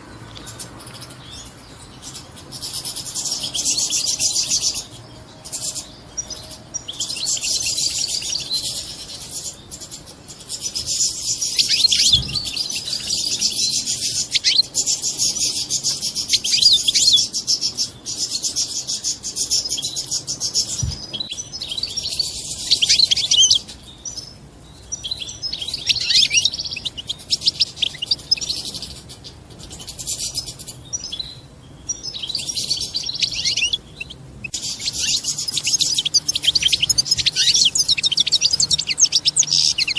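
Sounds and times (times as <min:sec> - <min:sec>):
goldfinch twittering chatter: 0:00.0 - 0:39.9.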